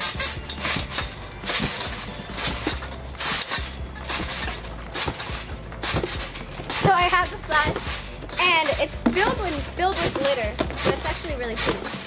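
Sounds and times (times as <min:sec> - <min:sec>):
trampoline mat thumping: 0:00.0 - 0:12.0
trampoline springs jangling: 0:00.0 - 0:12.0.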